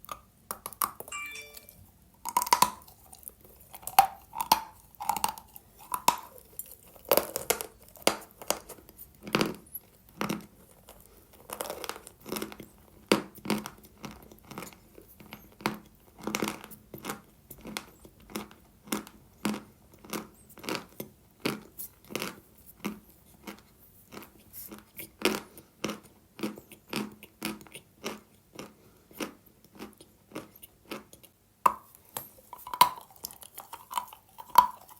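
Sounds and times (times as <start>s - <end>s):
chalk crunching while chewed: 2.4s - 34.9s.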